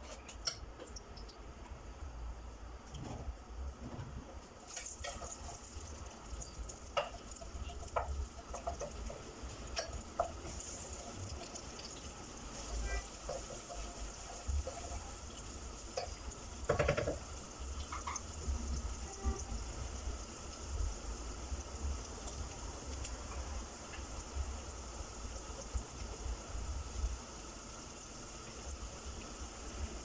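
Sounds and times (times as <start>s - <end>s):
onions sizzling in hot oil: 4.6s - 30.0s.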